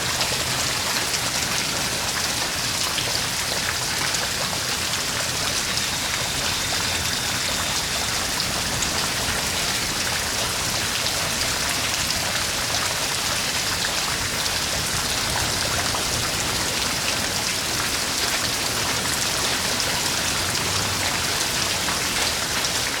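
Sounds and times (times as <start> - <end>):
heavy rain downpour: 0.0 - 23.0.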